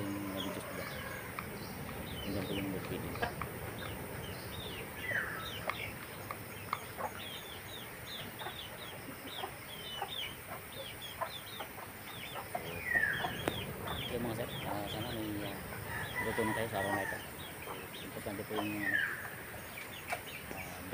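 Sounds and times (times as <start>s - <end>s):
harsh bird call: 0.0s - 11.6s, 12.2s - 20.9s
birds pecking at plastic bowls: 0.0s - 20.9s.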